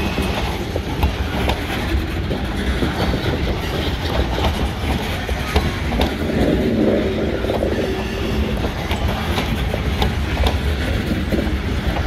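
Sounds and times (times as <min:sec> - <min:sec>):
clickety-clack over rail joints: 0:00.0 - 0:12.0
train wheels rumbling on rails: 0:00.0 - 0:12.0.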